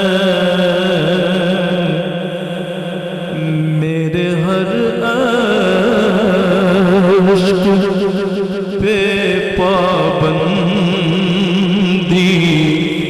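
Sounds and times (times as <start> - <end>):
man singing with vibrato: 0.0 - 13.0.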